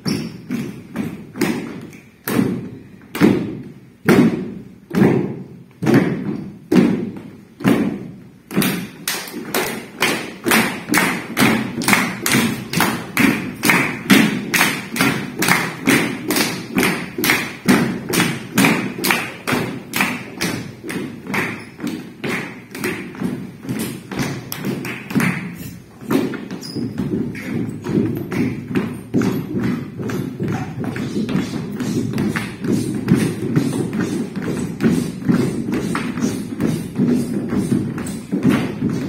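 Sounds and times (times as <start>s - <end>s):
rhythmic thumps: 0.0s - 39.0s.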